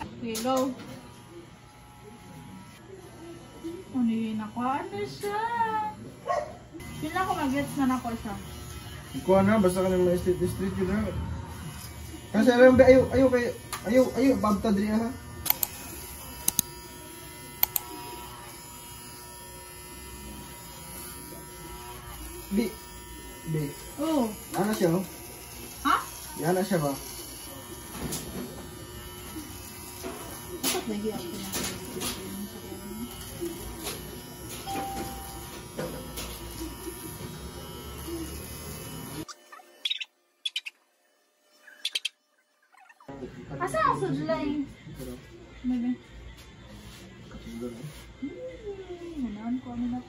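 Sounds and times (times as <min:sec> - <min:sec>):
electric hair clippers humming: 0:00.0 - 0:41.8.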